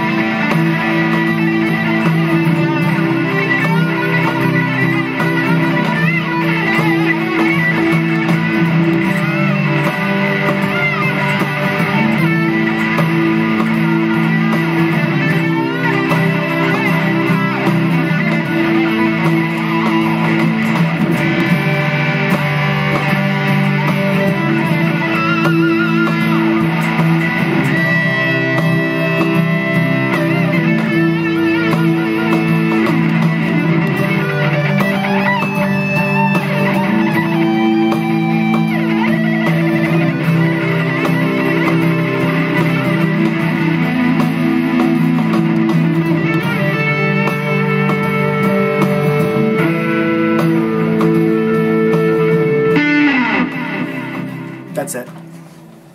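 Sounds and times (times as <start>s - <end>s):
electric guitar solo: 0.0s - 55.6s.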